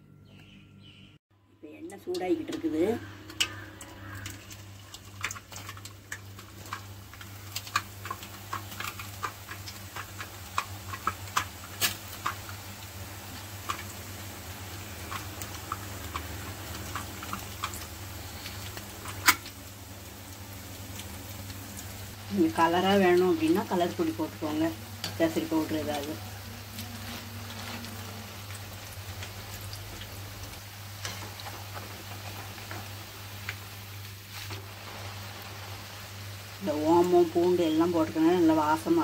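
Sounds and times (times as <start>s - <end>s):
frying in hot oil: 1.6s - 39.0s.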